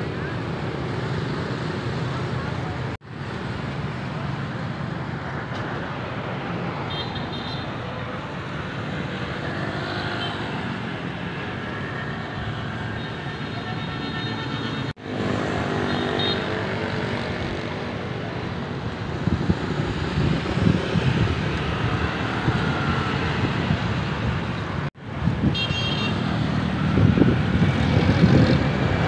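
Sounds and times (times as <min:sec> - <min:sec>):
motorbikes and scooters passing: 0:00.0 - 0:29.0.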